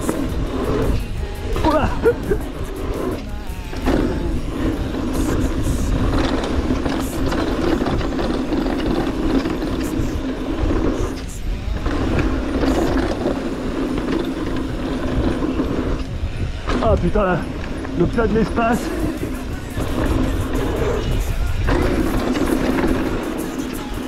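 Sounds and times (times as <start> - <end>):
bike freehub buzzing: 0.0 - 24.0
bike rattles and clicks: 0.0 - 24.0
tyres rumbling on rough trail: 0.0 - 24.0.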